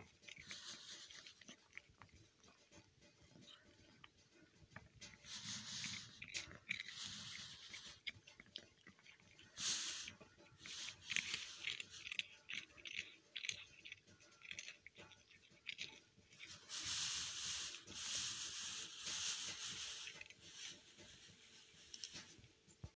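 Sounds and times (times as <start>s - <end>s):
steady hissing noise: 0.0s - 8.4s, 9.0s - 22.9s
kitten crunching biscuit: 0.0s - 22.7s.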